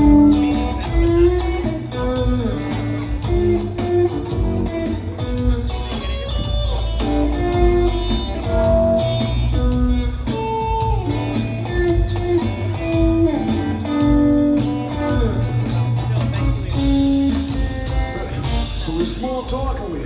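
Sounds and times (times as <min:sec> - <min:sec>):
live rock trio playing: 0:00.0 - 0:20.0.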